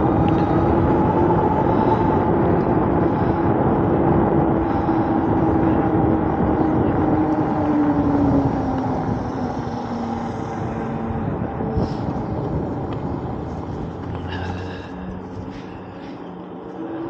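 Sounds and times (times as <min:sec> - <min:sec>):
electric hub motor whine: 0:00.0 - 0:17.0
wind rushing over microphone: 0:00.0 - 0:17.0.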